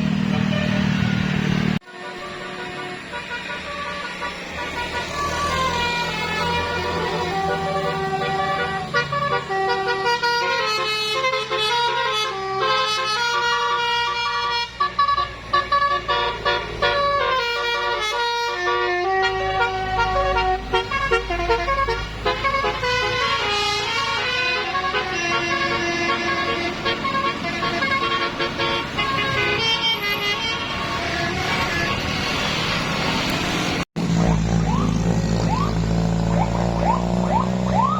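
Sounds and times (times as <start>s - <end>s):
bus engines rumbling: 0.0s - 37.9s
multi-tone air horns playing melody: 1.8s - 32.6s.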